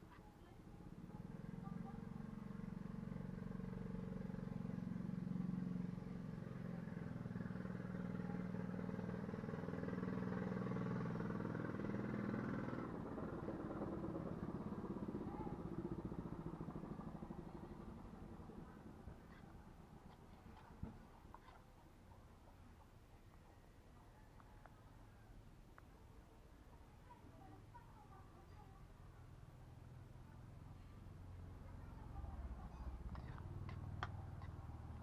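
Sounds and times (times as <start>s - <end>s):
vehicle engine running: 0.8s - 21.5s, 27.4s - 35.0s.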